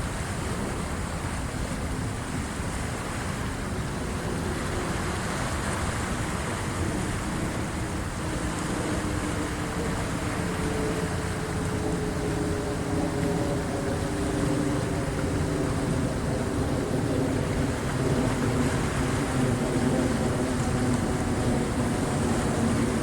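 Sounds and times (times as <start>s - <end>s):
seawater rushing: 0.0s - 23.0s.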